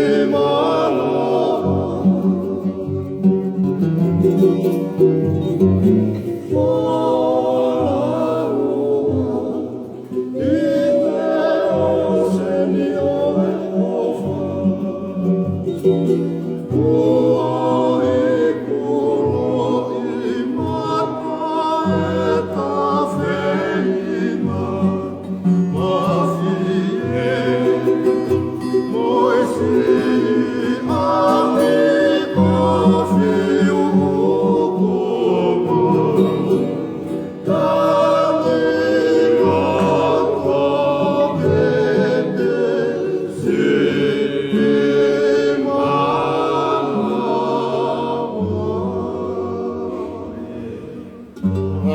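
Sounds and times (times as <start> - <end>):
group singing in harmony: 0.0 - 51.9.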